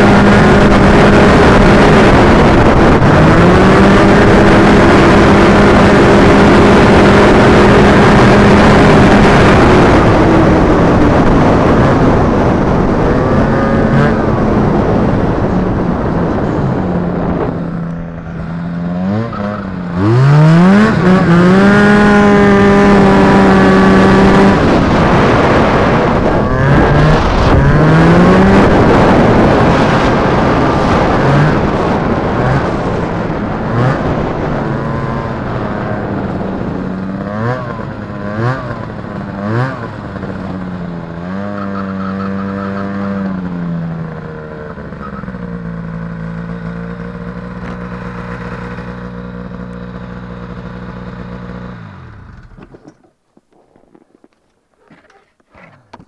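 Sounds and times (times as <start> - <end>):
snowmobile engine revving: 0.0 - 52.7.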